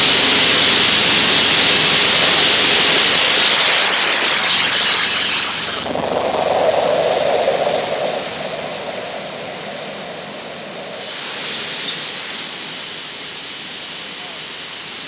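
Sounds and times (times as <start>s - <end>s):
air and water rushing hiss: 0.0s - 15.0s.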